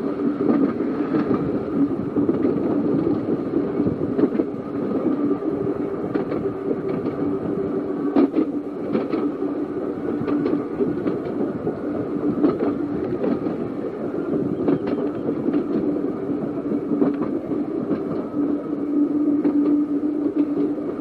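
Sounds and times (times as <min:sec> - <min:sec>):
wheels clicking over rail joints: 0:00.0 - 0:18.6
electric tram motor hum: 0:00.0 - 0:21.0.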